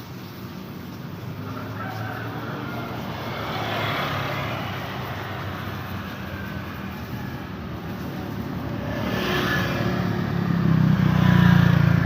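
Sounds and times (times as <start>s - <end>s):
traffic hum: 0.0s - 12.0s
vehicle engine passing close: 1.1s - 12.0s.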